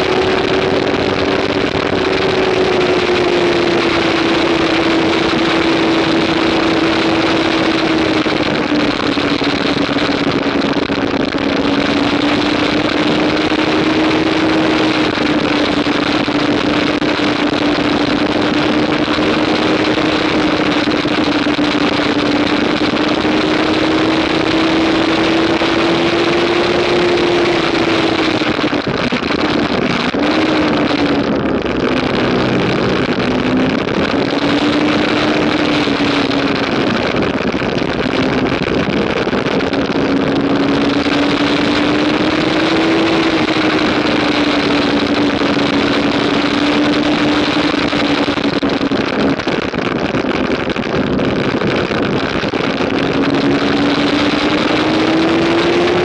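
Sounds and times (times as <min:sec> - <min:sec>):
motorcycle engine running hard: 0:00.0 - 0:56.0
wind rush on microphone: 0:00.0 - 0:56.0.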